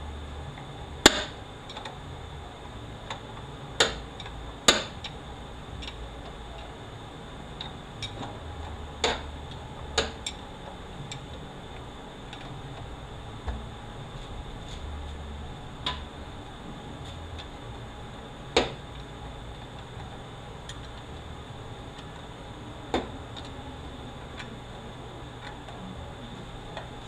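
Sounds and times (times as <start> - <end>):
low steady shop hum: 0.0 - 27.0.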